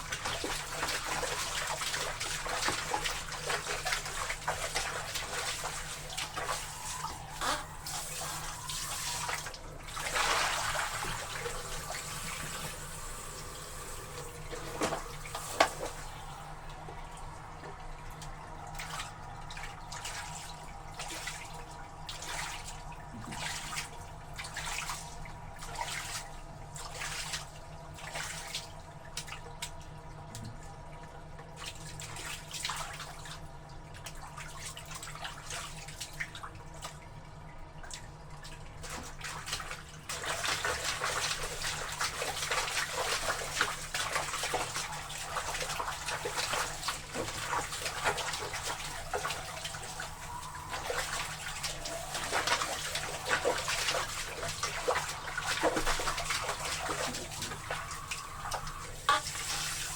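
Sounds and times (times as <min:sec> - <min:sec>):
laundry sloshing in water: 0:00.0 - 0:59.9.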